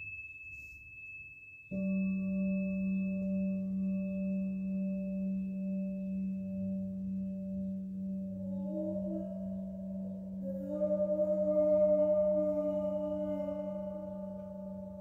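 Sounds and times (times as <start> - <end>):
faint high ringing tone: 0.0 - 15.0
metal singing bowl ringing: 0.0 - 15.0.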